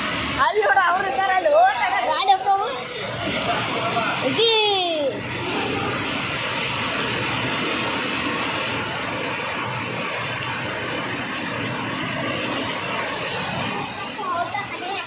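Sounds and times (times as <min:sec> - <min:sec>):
heavy rain on a flooded road: 0:00.0 - 0:15.0
running water: 0:00.0 - 0:15.0.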